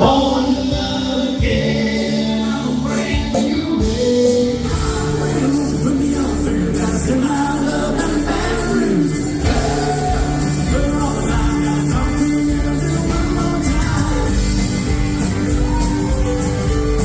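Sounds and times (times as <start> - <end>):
person singing lead vocal: 0.0 - 16.8
bass line: 0.0 - 17.0.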